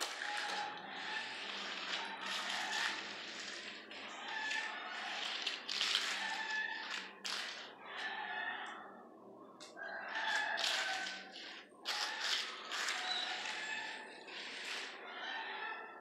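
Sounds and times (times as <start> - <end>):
trowel scraping cement floor: 0.0 - 8.7, 9.6 - 16.0.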